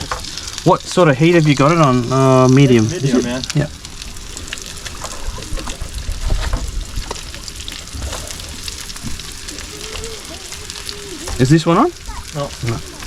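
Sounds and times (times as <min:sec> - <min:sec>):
fish frying in a pan: 0:00.0 - 0:13.0.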